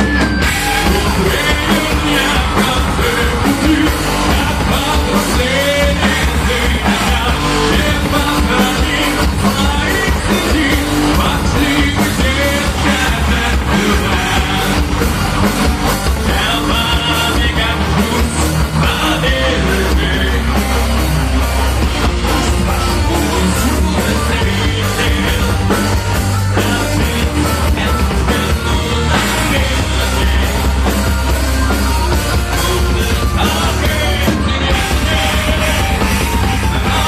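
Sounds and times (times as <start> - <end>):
heavy metal band playing live: 0.0 - 37.0.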